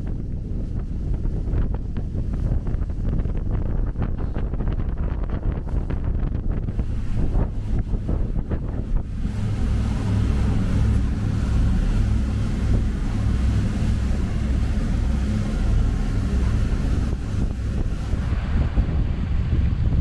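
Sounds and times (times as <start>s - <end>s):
boat engines droning: 0.0s - 19.5s
wind buffeting microphone: 0.0s - 20.0s.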